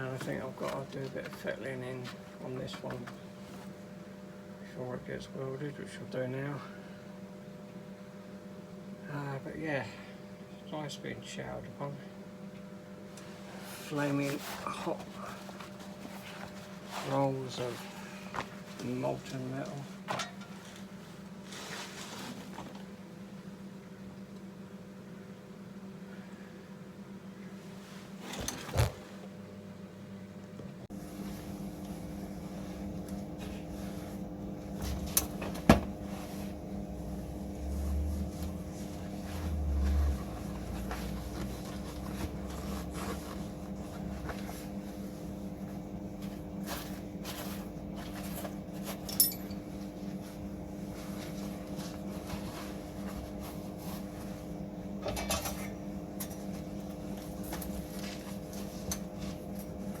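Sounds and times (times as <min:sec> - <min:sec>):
workshop machine hum: 0:00.0 - 1:00.0.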